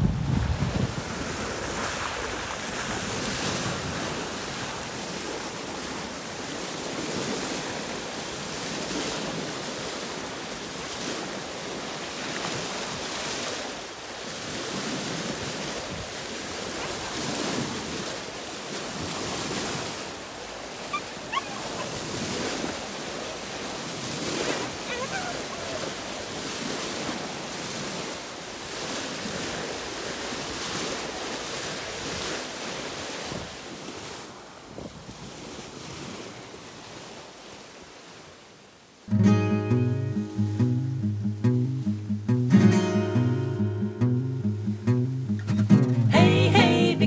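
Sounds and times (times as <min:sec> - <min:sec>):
bow wave splashing along hull: 0:00.0 - 0:39.6.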